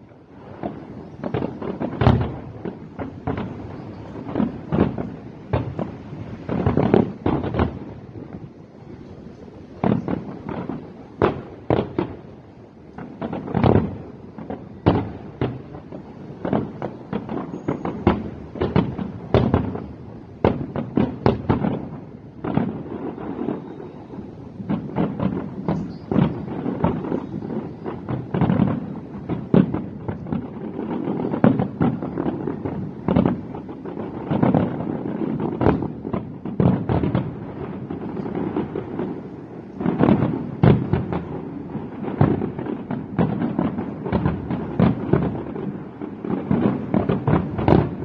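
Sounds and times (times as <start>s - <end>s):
fireworks bursting: 0.0s - 48.0s.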